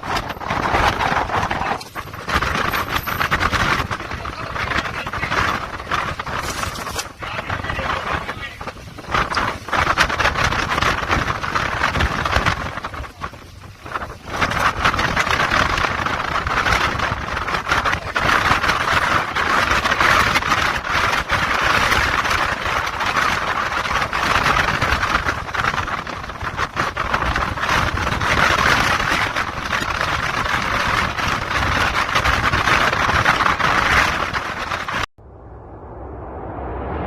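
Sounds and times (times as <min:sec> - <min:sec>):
rushing wind: 0:00.0 - 0:37.0
water noise: 0:00.0 - 0:37.0.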